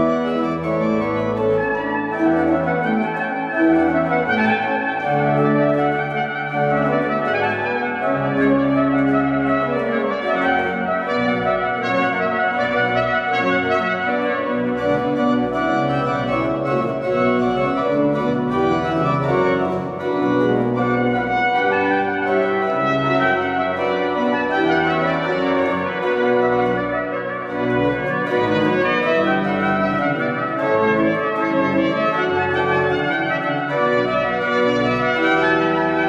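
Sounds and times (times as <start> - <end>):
pipe organ chords: 0.0 - 36.0
trumpet melody: 0.0 - 36.0.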